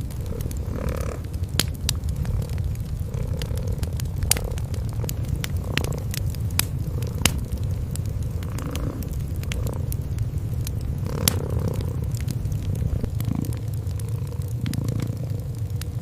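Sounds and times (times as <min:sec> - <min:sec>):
cats purring: 0:00.0 - 0:16.0
wood fire crackling: 0:00.0 - 0:16.0.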